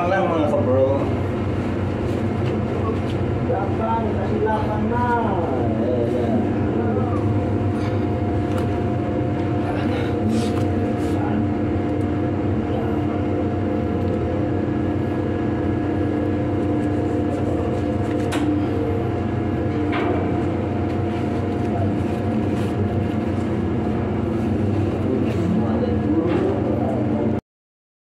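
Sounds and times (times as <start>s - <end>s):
ship engines droning: 0.0s - 27.4s.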